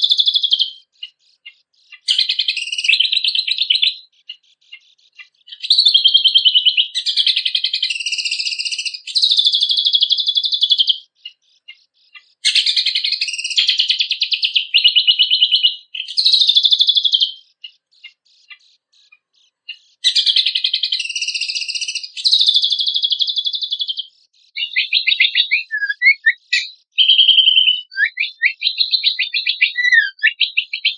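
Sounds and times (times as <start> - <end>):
songbird singing trilled phrases: 0.0 - 30.9.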